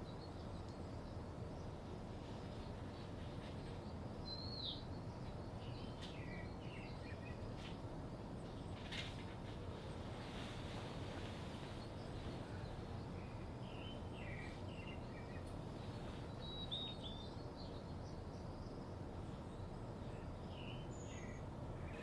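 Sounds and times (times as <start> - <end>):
low ambient hum: 0.0 - 22.0.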